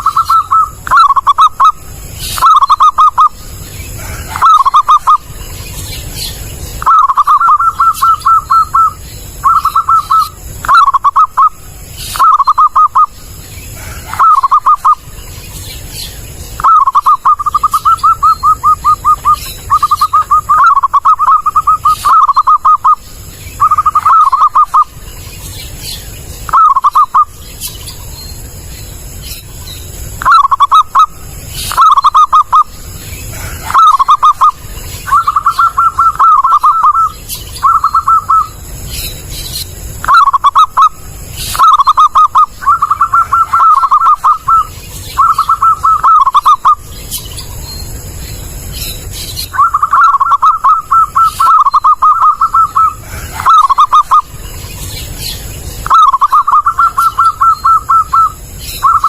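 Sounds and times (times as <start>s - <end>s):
dove cooing: 0.0s - 25.9s, 26.5s - 27.4s, 30.2s - 38.7s, 40.0s - 46.9s, 49.4s - 54.4s, 55.0s - 59.0s
faint low hum: 0.0s - 59.0s.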